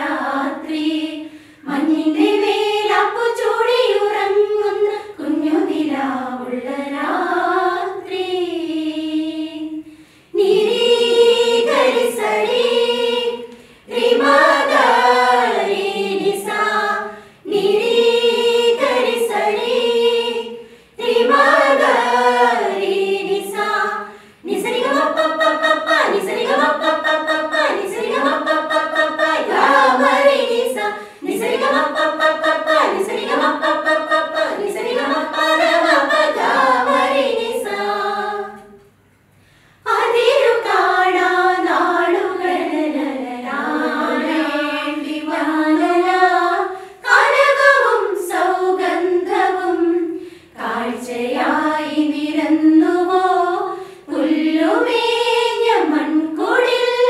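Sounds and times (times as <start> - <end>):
women's choir singing a carol: 0.0 - 39.0, 39.8 - 57.0.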